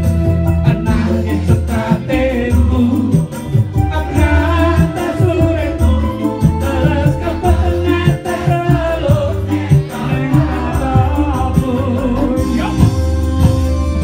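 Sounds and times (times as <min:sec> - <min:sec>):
band music through speakers: 0:00.0 - 0:14.0
heavy bass beat: 0:00.0 - 0:14.0
crowd singing along: 0:00.3 - 0:14.0
man singing into a microphone: 0:00.6 - 0:13.1.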